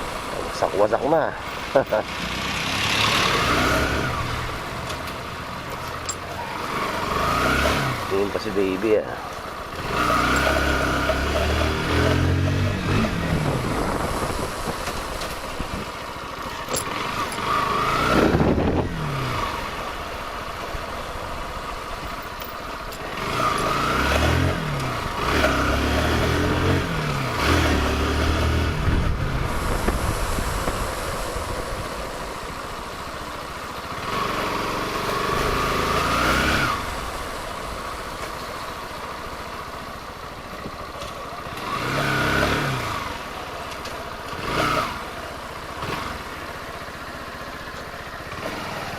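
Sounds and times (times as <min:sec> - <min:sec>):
motorcycle engine accelerating: 0:00.0 - 0:09.0, 0:09.6 - 0:48.9
wind and road noise: 0:00.0 - 0:48.9.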